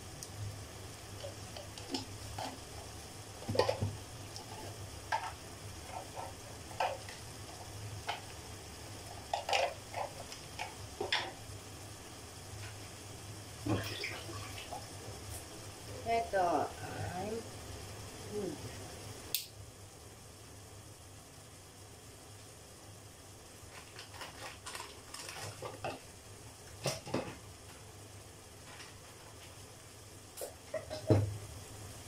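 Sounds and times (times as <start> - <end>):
food crackling and popping in a pot: 0.0 - 18.2, 19.0 - 19.8, 21.6 - 32.0
steady low hum: 0.0 - 32.0.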